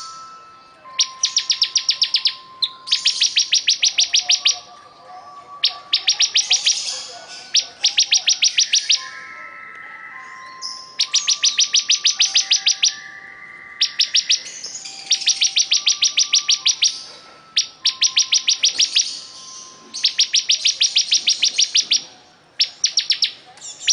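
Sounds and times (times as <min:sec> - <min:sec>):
bird singing sharp chip notes: 0:00.8 - 0:04.8, 0:05.5 - 0:09.2, 0:10.2 - 0:13.2, 0:13.8 - 0:23.9.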